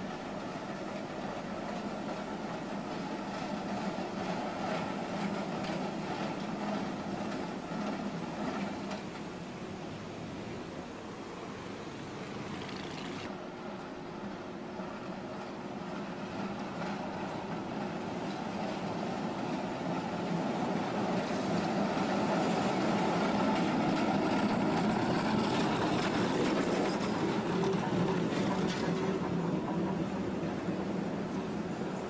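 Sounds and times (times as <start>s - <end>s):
streetcar rumbling on rails: 0.0s - 32.0s.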